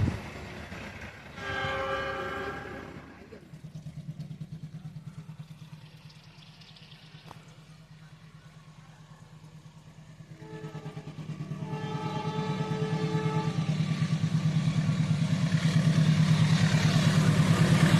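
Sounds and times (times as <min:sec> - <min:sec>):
engine throbbing: 0:00.0 - 0:17.9.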